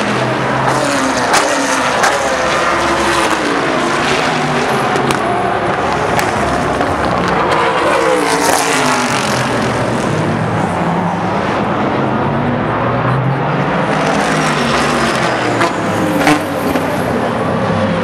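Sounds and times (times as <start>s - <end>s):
race cars passing at speed: 0.0s - 18.0s.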